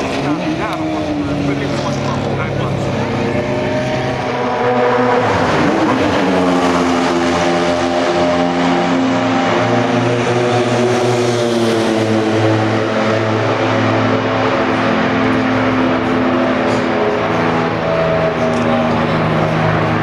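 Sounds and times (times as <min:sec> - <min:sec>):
racing engine at high revs: 0:00.0 - 0:20.0.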